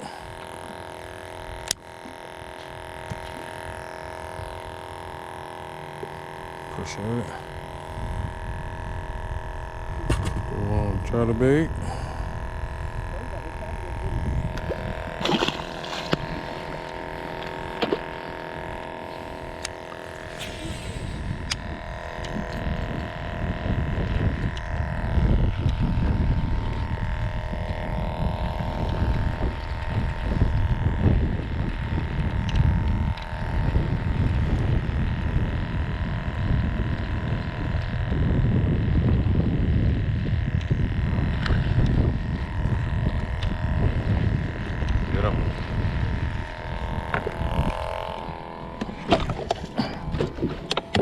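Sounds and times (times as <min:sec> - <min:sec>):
boat motor hum: 0:00.0 - 0:51.0
wind buffeting microphone: 0:02.3 - 0:51.0.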